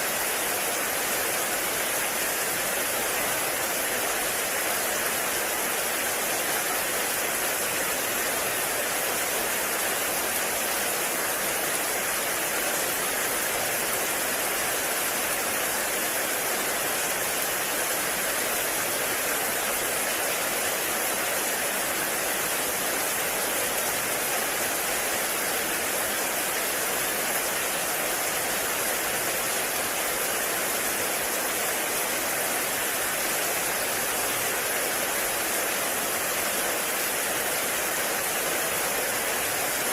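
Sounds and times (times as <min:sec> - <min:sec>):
heavy rain in forest: 0:00.0 - 0:39.9.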